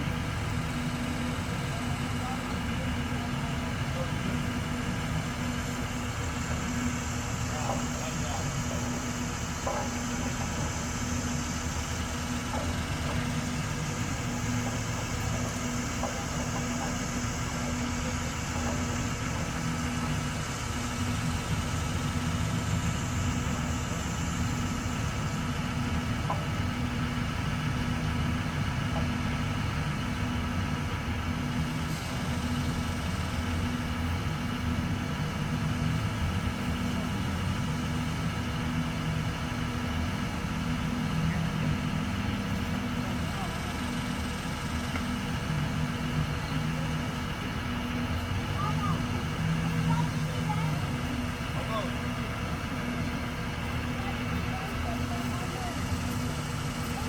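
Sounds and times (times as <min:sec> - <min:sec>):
large engine idling: 0:00.0 - 0:57.0.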